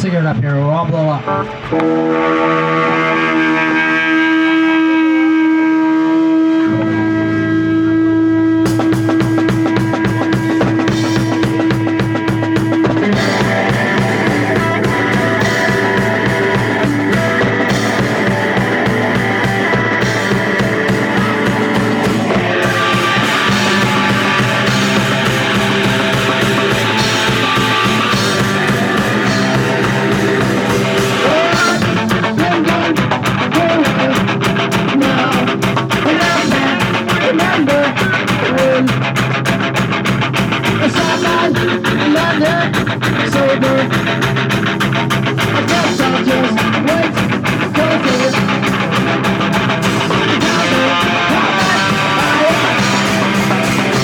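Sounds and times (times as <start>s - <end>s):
guitars: 0.0s - 54.0s
punk rock band playing live: 0.0s - 54.0s
drum kit: 8.6s - 54.0s.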